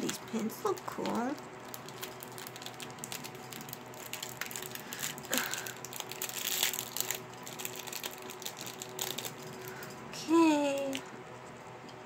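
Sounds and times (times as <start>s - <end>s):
packaging clicks: 0.0s - 9.9s
packaging crinkling: 0.0s - 10.0s.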